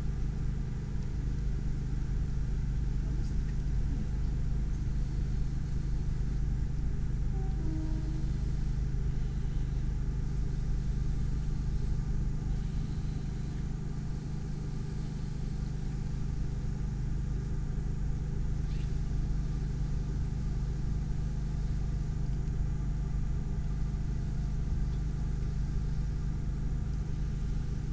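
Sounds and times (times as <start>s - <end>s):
constant low hum: 0.0s - 27.9s.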